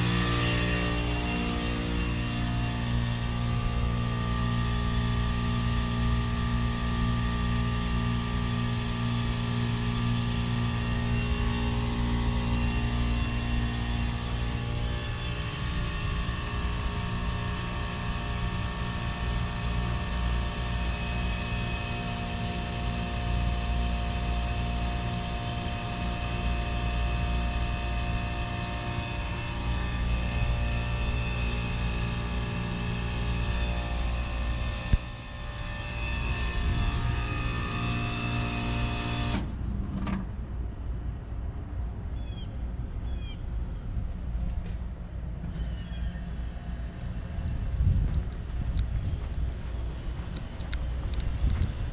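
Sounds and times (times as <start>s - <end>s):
heat pump hum with steady tones: 0.0s - 51.9s
low steady rumble: 0.0s - 51.9s.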